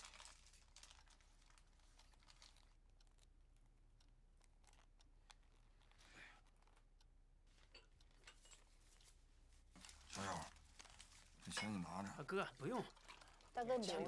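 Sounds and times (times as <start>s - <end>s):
faint clicks and rustles: 0.0s - 14.0s.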